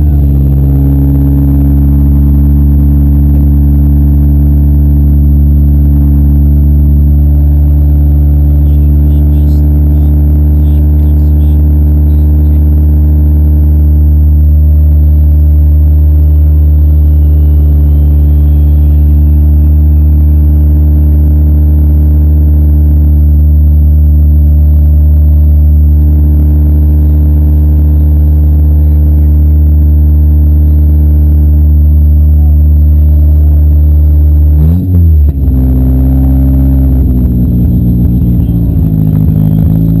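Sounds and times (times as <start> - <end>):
car engine running loud: 0.0 - 40.0.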